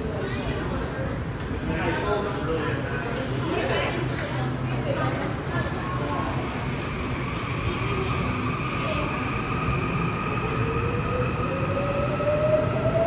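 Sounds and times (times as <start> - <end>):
electric train wheels rumbling on track: 0.0 - 13.0.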